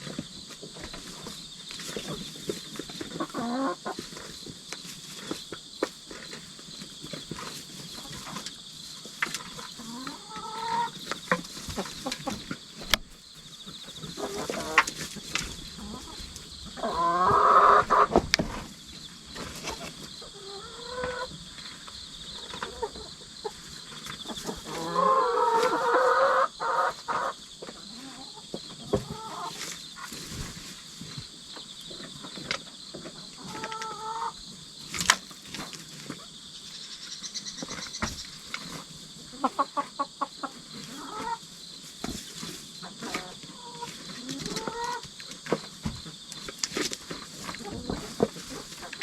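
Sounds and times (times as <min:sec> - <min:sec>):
hens clucking: 0:00.0 - 0:49.0
insects chirring: 0:00.0 - 0:49.0.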